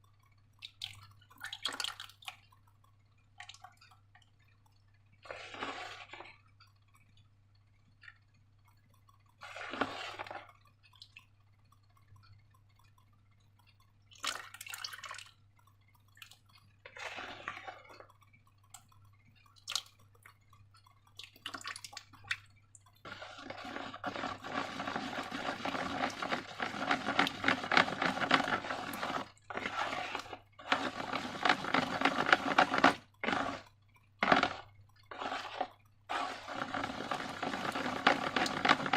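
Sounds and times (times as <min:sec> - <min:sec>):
wet slime squelching: 0:05.2 - 0:07.2, 0:08.0 - 0:11.5, 0:12.6 - 0:38.9.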